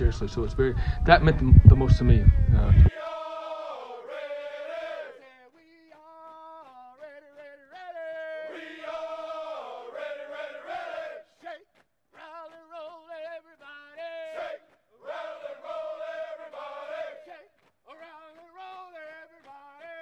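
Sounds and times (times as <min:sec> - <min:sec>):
voices singing slow melody: 0:01.7 - 0:11.6, 0:12.2 - 0:20.0.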